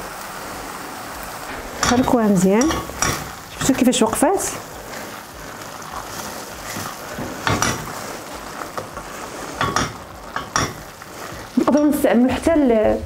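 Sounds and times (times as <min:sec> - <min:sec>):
sauce sizzling in a frying pan: 0:00.0 - 0:12.9
spatula scraping and knocking pan: 0:01.6 - 0:12.4.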